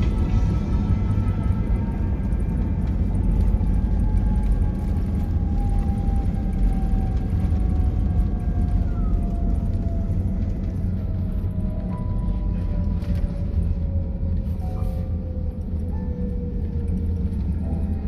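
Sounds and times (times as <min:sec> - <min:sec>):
airliner cabin rumble: 0:00.0 - 0:18.0
jet engine whine: 0:00.0 - 0:18.0.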